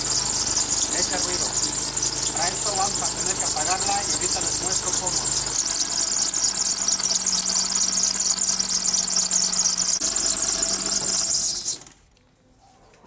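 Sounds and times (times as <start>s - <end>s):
drive belt squealing: 0.0s - 12.0s.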